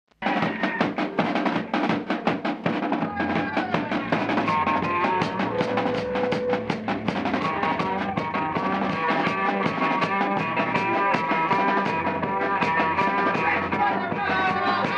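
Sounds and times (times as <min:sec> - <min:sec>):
drum kit fast beat: 0:00.2 - 0:14.9
rock band playing: 0:00.2 - 0:14.9.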